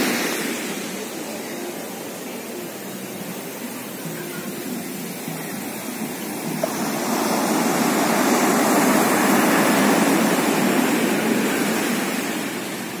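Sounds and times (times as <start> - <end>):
ocean surf washing ashore: 0.0 - 13.0.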